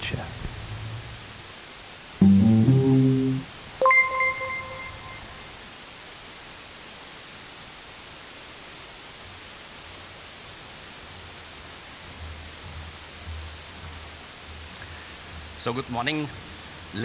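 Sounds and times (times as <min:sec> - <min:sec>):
sound system hiss: 0:00.0 - 0:05.7, 0:09.0 - 0:17.0.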